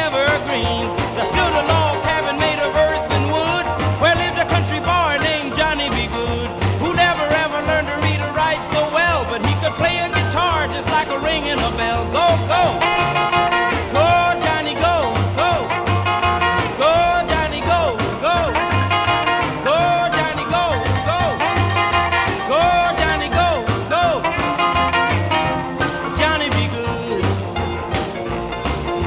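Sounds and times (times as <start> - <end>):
music with beat and bass line: 0.0 - 29.0.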